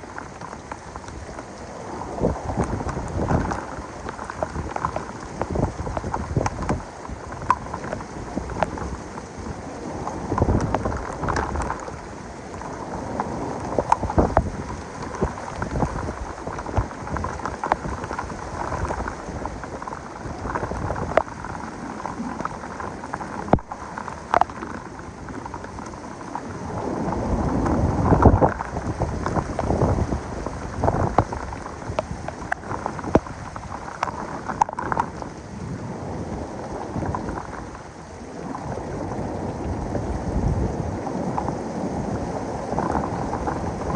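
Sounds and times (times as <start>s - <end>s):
heavy rain downpour: 0.0s - 43.9s
thunder rumbling: 0.0s - 43.9s.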